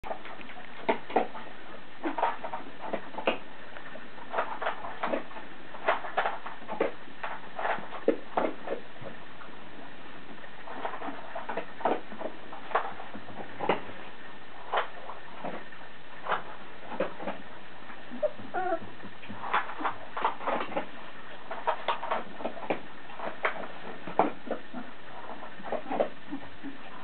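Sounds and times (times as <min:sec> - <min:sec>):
dog crunching dry food: 0:00.0 - 0:27.0.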